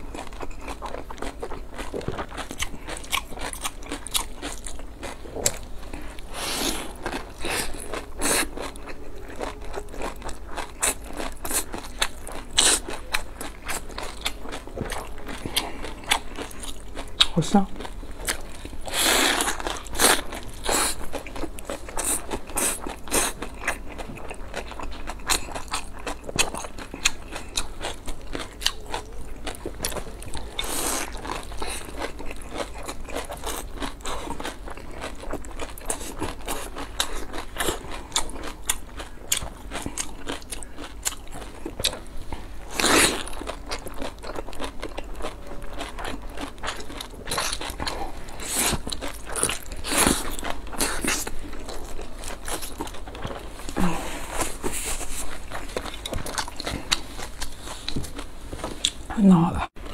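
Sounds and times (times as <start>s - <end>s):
chewing: 0.0s - 59.1s.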